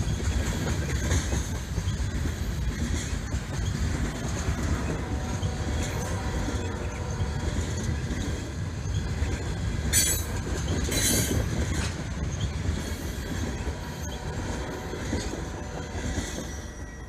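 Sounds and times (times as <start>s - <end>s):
freight cars rumbling and clattering: 0.0s - 16.6s.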